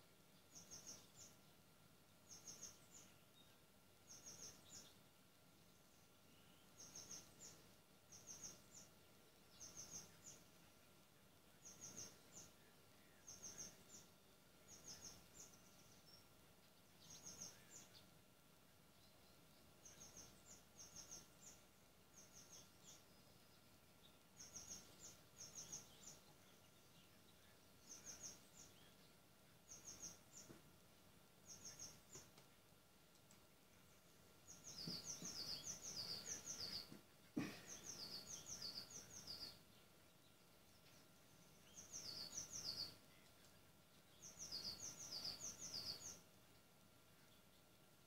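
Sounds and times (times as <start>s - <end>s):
songbird chirping: 0.0s - 48.0s.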